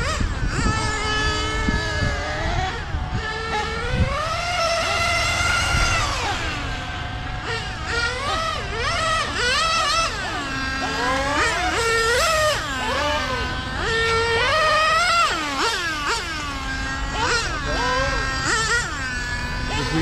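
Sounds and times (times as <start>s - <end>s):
rc car engine whine revving: 0.0s - 20.0s.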